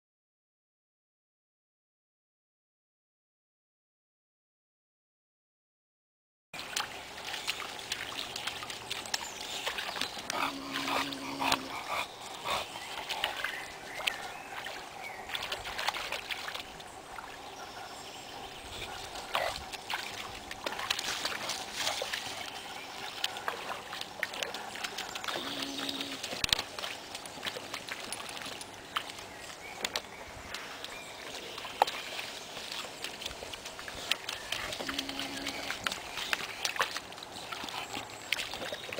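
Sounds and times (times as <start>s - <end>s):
dogs splashing through puddle: 6.6s - 38.9s.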